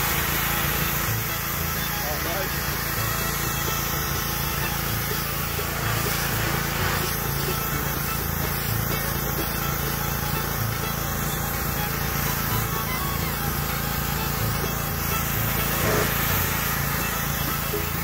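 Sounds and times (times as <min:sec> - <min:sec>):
pressure washer spray hissing: 0:00.0 - 0:18.0
washer motor and pump drone: 0:00.0 - 0:18.0.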